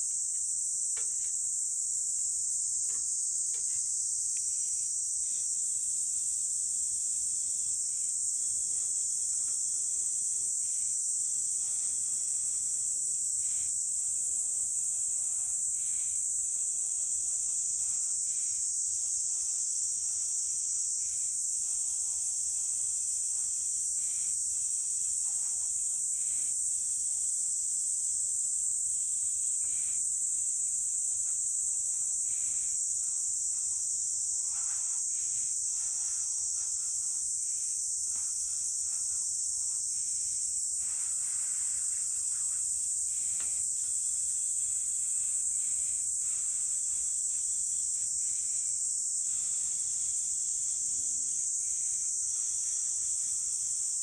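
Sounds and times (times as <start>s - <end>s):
insect chorus drone: 0.0s - 54.0s.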